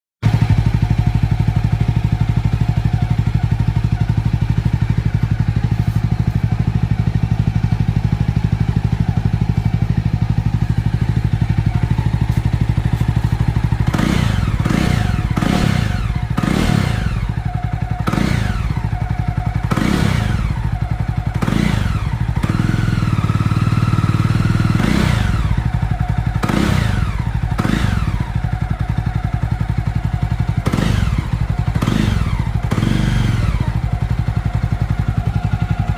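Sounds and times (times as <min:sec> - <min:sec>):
motorcycle engine idling and revving: 0:00.2 - 0:35.9.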